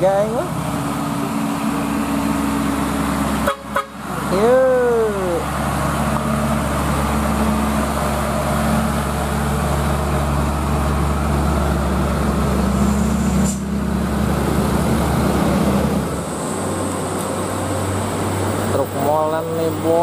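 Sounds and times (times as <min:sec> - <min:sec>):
truck diesel engine climbing hill: 0:00.0 - 0:20.0.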